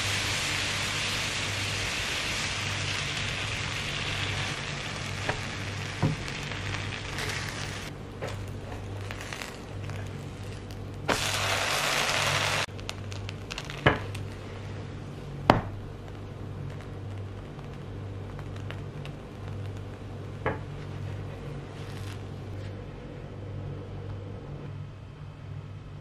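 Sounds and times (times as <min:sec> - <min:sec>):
bread sizzling in a pan: 0:00.0 - 0:22.6
low hum: 0:00.0 - 0:26.0.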